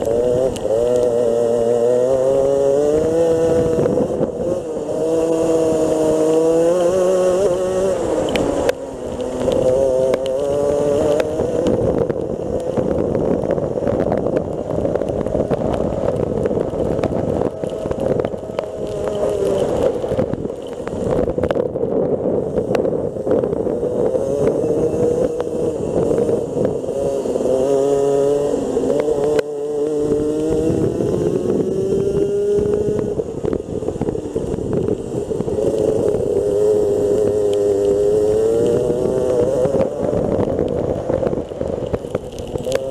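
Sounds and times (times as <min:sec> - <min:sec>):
kart engine at racing speed: 0:00.0 - 0:42.9.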